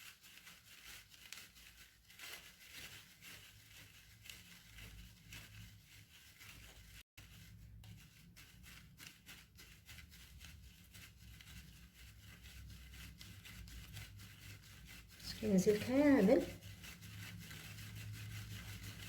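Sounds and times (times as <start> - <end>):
scratchy rubbing through plastic sieve: 0.0 - 19.0.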